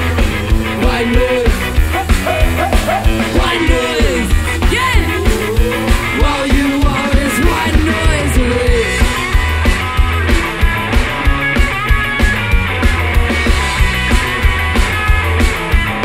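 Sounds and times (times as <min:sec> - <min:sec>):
ska-punk band playing live: 0:00.0 - 0:16.0.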